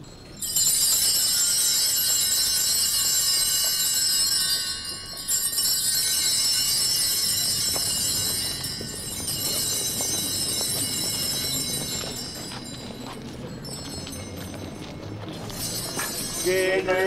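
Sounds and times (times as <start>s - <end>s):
handbells jingling: 0.0s - 17.0s.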